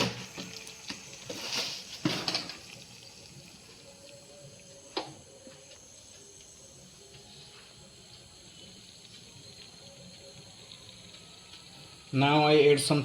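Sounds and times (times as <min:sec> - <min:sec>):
oil hissing in pan: 0:00.0 - 0:13.0.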